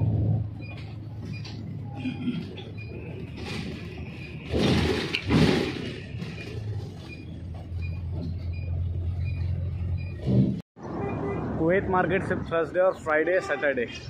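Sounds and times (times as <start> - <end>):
bus engine hum: 0.0 - 11.6.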